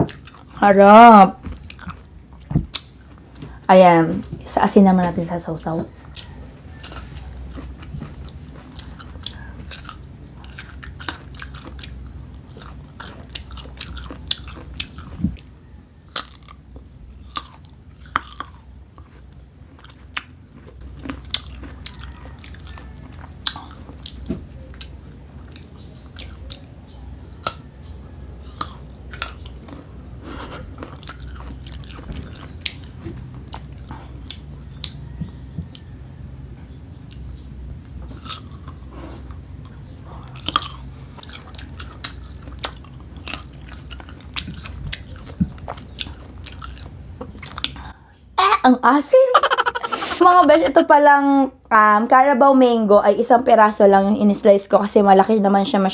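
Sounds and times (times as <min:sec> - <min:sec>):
crunchy chewing of fruit: 0:00.0 - 0:00.7, 0:01.4 - 0:48.0.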